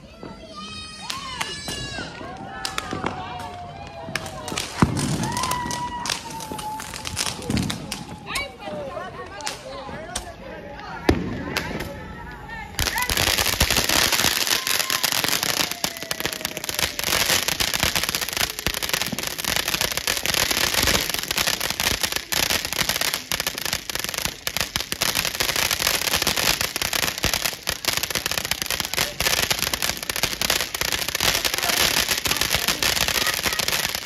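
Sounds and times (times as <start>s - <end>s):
fountain firework crackling and fizzing: 0.0s - 34.0s
firework fuse burning: 0.5s - 10.4s, 11.0s - 34.0s.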